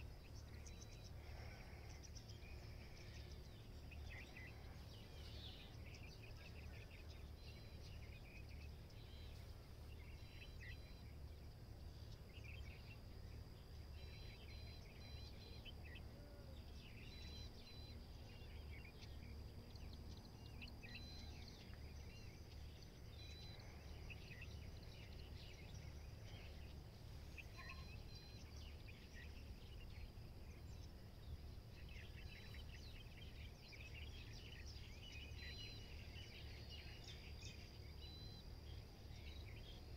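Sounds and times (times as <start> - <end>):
high insect drone: 0.0 - 39.9
low steady rumble: 0.0 - 39.9
small birds chirping: 0.0 - 39.9.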